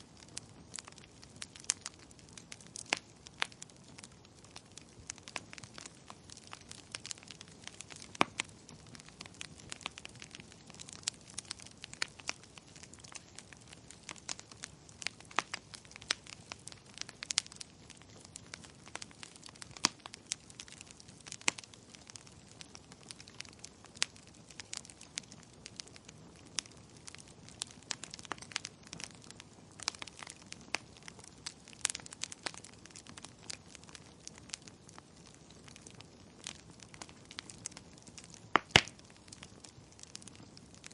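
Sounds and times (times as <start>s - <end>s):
firewood crackling and popping: 0.0s - 40.9s
soft hiss of fire: 0.0s - 40.9s.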